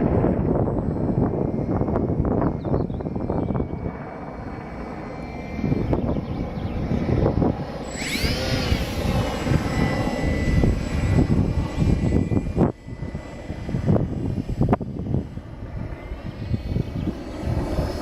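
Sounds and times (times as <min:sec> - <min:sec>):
model plane motor whine: 0:00.0 - 0:18.0
wind buffeting microphone: 0:00.0 - 0:18.0.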